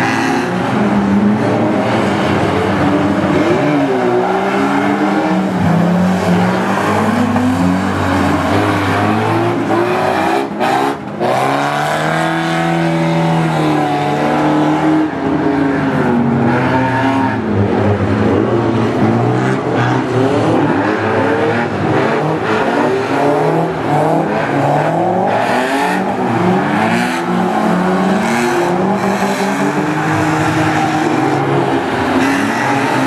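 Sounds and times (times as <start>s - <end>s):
car engines revving: 0.0s - 33.0s.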